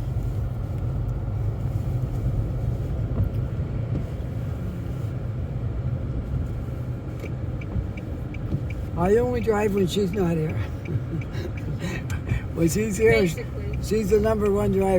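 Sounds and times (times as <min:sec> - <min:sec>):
car interior road rumble: 0:00.0 - 0:14.9.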